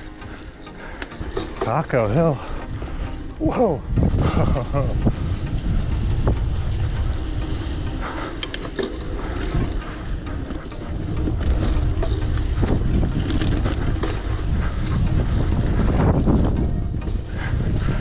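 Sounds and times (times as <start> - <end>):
wind rumble on microphone: 2.7 - 18.0.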